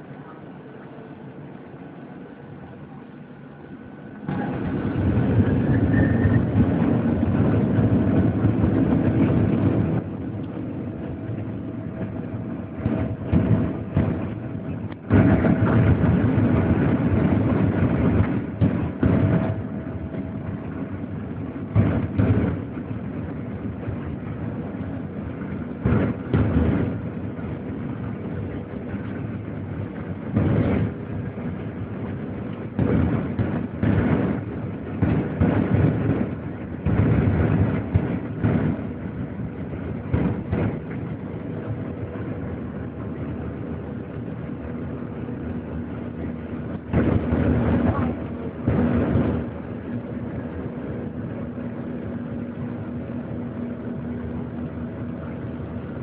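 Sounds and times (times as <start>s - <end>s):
aircraft cabin engine hum: 0.0s - 56.0s.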